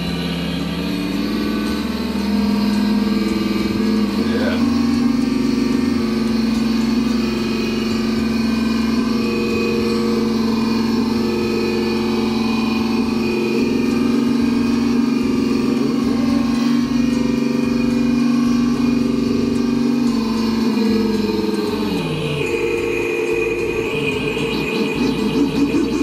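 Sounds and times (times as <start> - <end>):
simulated diesel engine from speaker: 0.0 - 26.0.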